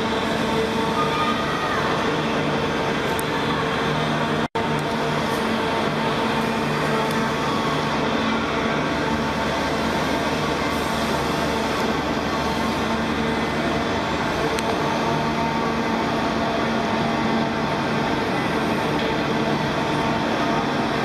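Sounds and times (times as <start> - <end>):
machine engine hum and rumble: 0.0 - 21.0.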